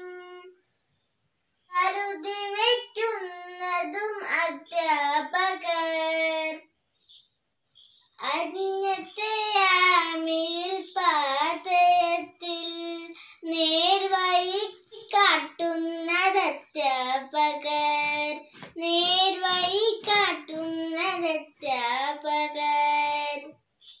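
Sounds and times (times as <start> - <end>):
girl singing unaccompanied: 0.0 - 0.6, 1.7 - 6.7, 8.2 - 23.6.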